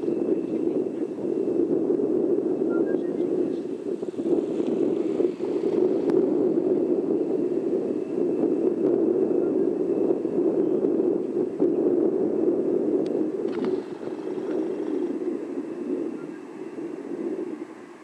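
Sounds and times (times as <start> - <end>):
faint high whine: 0.0 - 18.0
jet engine rumble: 0.0 - 18.0.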